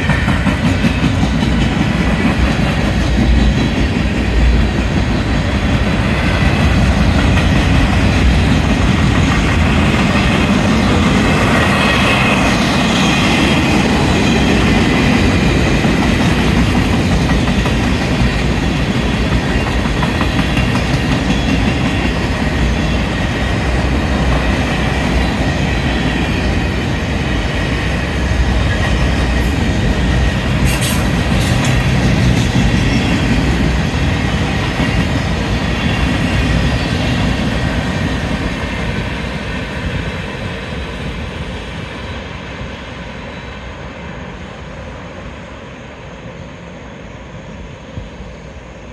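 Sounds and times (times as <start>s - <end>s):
clickety-clack over rail joints: 0.0s - 41.1s
train wheels rumbling on rails: 0.0s - 48.9s.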